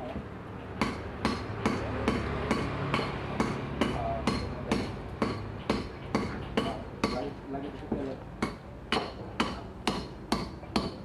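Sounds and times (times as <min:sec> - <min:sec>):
hammering: 0:00.6 - 0:11.0.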